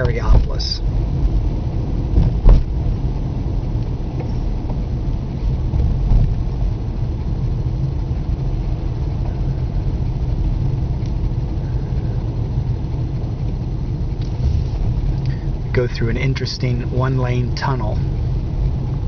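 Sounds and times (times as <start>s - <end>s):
car rumbling over bridge: 0.0s - 19.0s.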